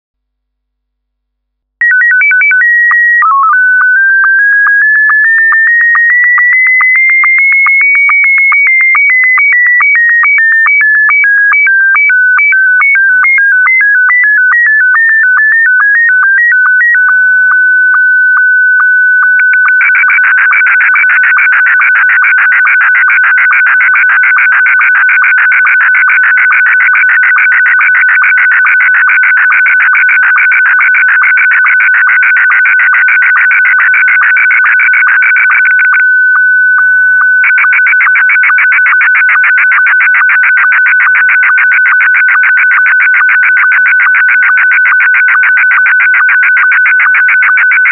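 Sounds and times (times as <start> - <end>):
beeping signal tones: 1.8 - 47.9.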